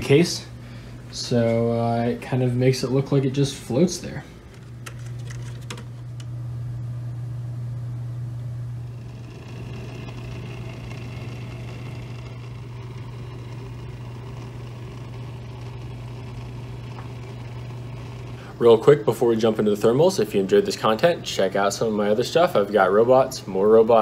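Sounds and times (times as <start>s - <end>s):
computer fans humming: 0.0s - 24.0s
faint high whine: 0.0s - 24.0s.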